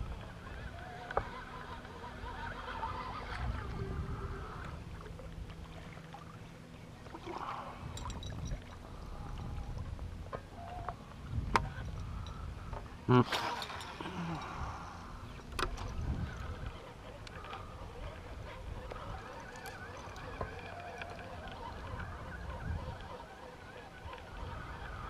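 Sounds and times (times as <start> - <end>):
water wash and wind: 0.0 - 25.0.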